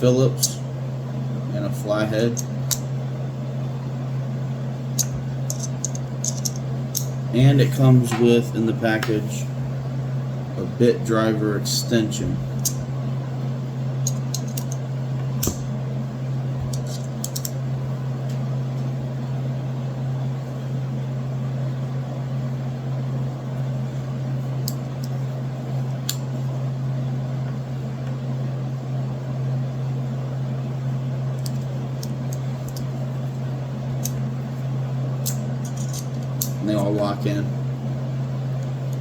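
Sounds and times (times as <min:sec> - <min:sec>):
low appliance hum: 0:00.0 - 0:39.0.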